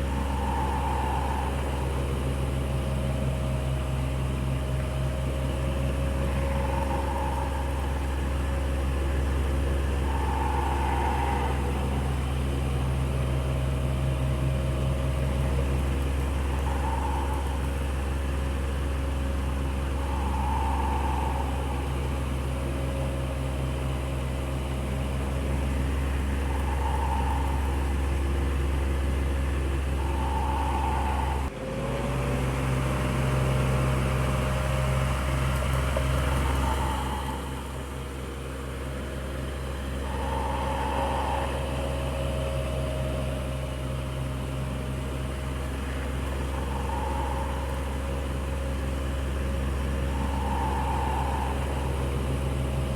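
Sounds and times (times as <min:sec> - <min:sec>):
electric fan running: 0:00.0 - 0:31.5, 0:32.2 - 0:52.9.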